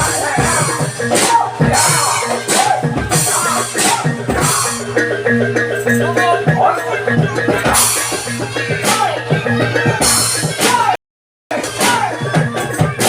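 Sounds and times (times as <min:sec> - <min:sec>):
wavering melody line: 0:00.0 - 0:10.6
drums beating steady rhythm: 0:00.0 - 0:13.0
struck metal mallet percussion: 0:00.0 - 0:13.0.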